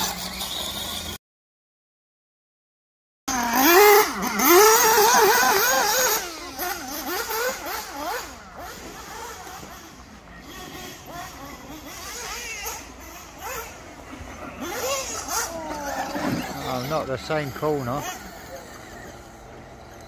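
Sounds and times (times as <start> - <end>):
radio-controlled car motors whining: 0.0 - 1.2, 3.3 - 20.0.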